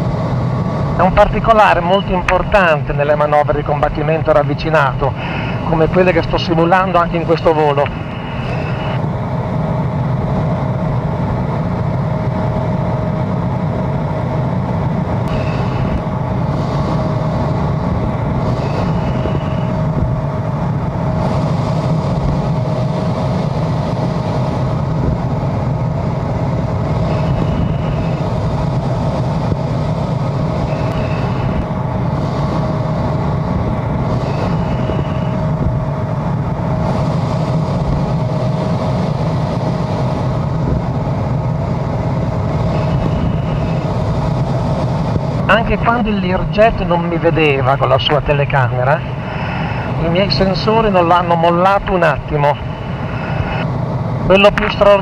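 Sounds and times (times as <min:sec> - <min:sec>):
constant hum tone: 0:00.0 - 0:55.0
jet aircraft cabin rumble: 0:00.0 - 0:55.0.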